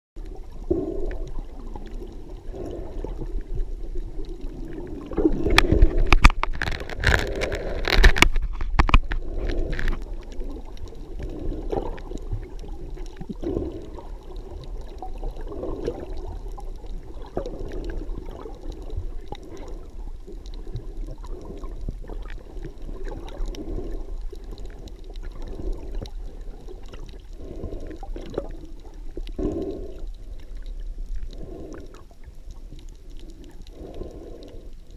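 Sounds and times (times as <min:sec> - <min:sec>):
muffled water sloshing underwater: 0:00.2 - 0:34.9.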